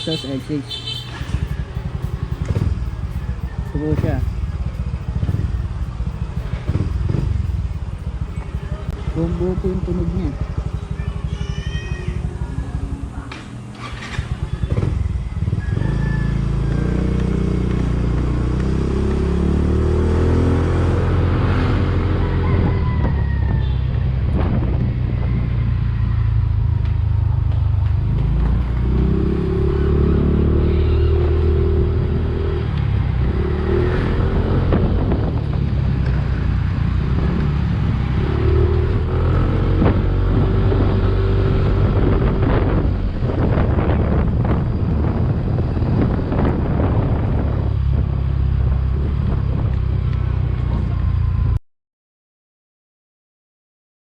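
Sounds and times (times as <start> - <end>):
motorcycle engine revving: 0.0 - 51.6.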